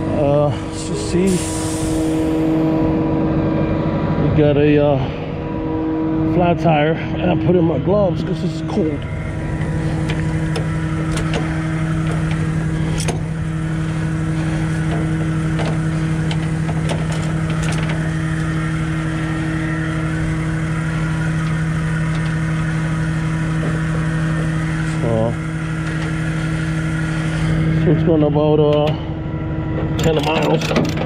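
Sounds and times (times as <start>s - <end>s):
truck engine droning: 0.0s - 31.0s.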